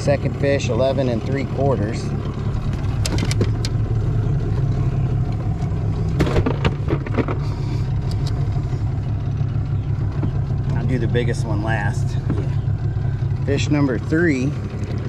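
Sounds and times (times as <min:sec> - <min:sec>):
outboard motor running: 0:00.0 - 0:15.0
knocks and clicks of gear: 0:01.1 - 0:14.0.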